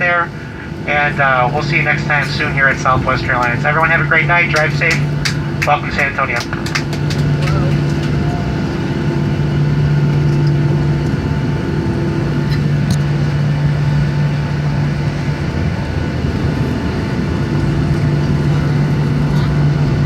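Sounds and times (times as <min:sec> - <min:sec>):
air rushing in cabin: 0:00.0 - 0:20.0
jet engines humming: 0:00.0 - 0:20.0.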